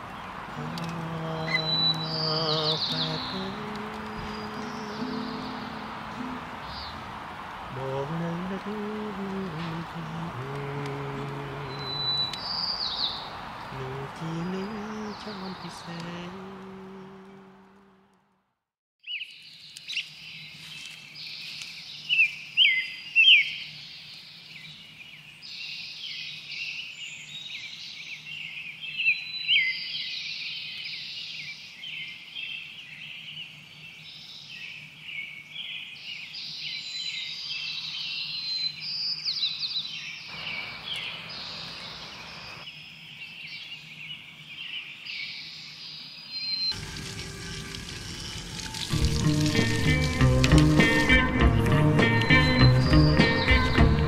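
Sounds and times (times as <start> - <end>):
songbirds singing and chirping: 0.0 - 17.7, 19.0 - 54.0.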